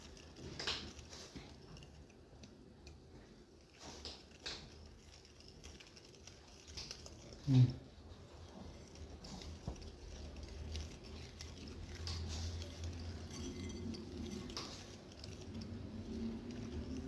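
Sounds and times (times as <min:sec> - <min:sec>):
spoon stirring dough in bowl: 0:00.0 - 0:17.0.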